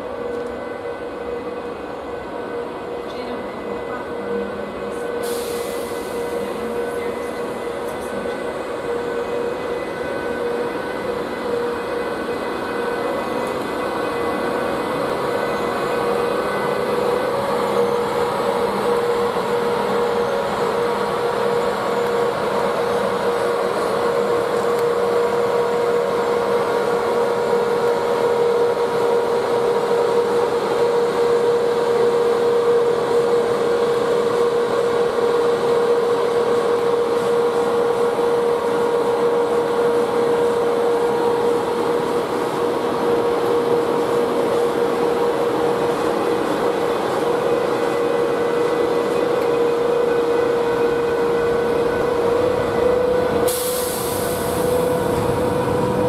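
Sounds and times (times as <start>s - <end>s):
electric locomotive hum: 0.0s - 56.0s.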